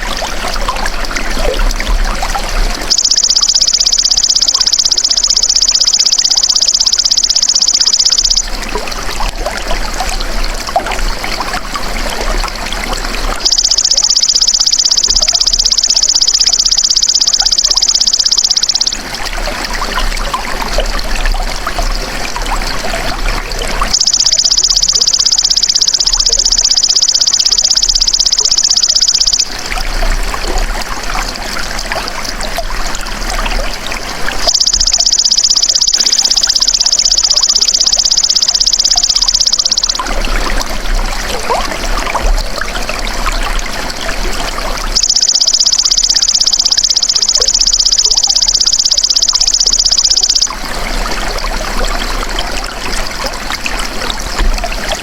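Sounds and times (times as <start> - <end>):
trickling running water: 0.0 - 55.0.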